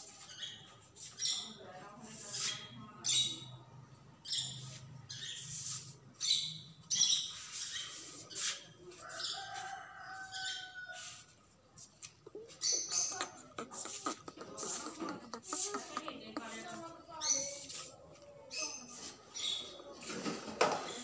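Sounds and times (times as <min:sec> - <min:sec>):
birds chirping and squawking: 0:00.0 - 0:01.6, 0:02.2 - 0:11.2, 0:12.3 - 0:21.0.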